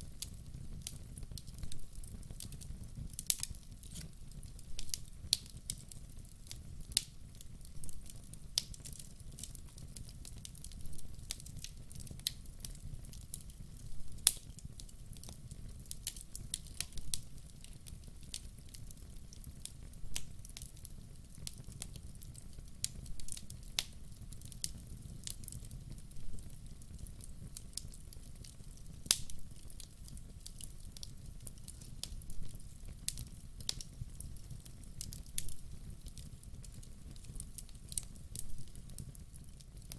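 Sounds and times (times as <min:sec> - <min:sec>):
low rumble of flames: 0:00.0 - 0:39.9
wood fire pops and snaps: 0:00.1 - 0:39.9.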